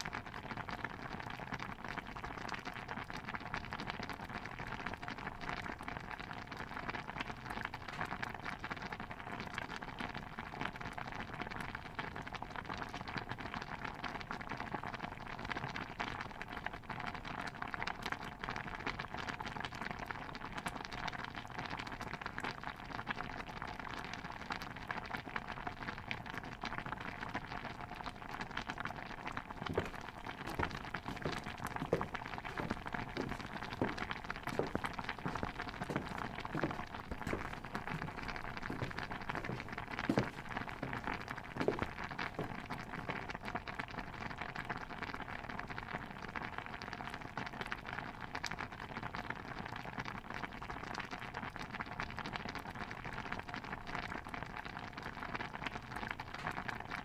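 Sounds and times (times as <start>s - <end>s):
stew bubbling in a pot: 0.0s - 57.0s.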